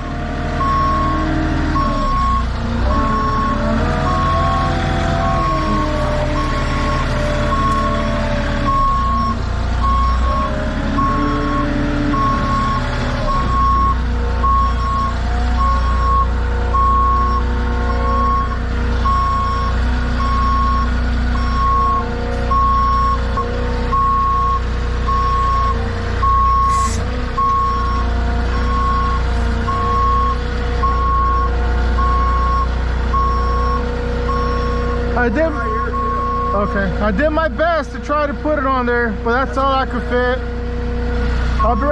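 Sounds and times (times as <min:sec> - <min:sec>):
engine running: 0:00.0 - 0:41.9
reversing alarm beeping: 0:00.6 - 0:37.3, 0:41.6 - 0:41.9.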